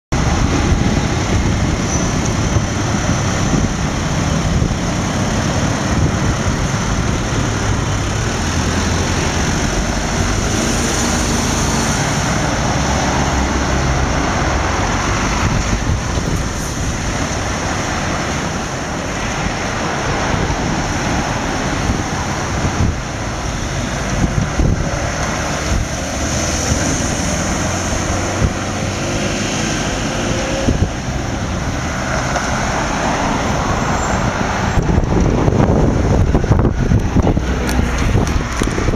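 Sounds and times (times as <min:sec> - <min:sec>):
road traffic engine hum: 0:00.1 - 0:38.9.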